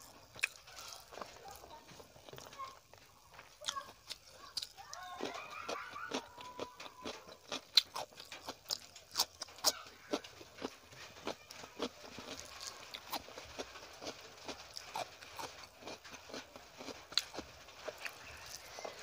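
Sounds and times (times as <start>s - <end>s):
mouth clicks and chewing: 0.0s - 19.0s.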